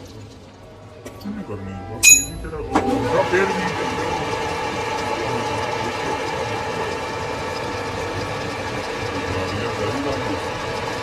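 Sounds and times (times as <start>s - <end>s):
metal lathe running: 2.0s - 11.0s.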